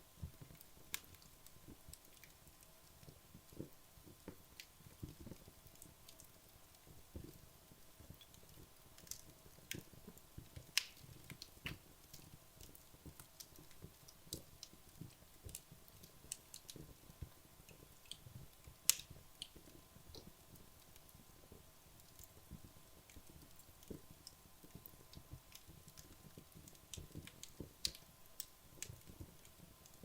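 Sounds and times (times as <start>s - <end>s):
wood logs crackling in fireplace: 0.0s - 30.0s.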